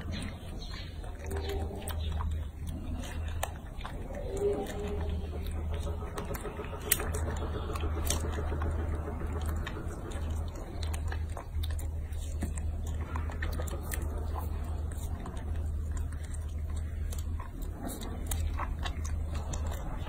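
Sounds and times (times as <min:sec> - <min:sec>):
low hum: 0:00.0 - 0:20.0
monkey chewing and biting: 0:00.0 - 0:20.0.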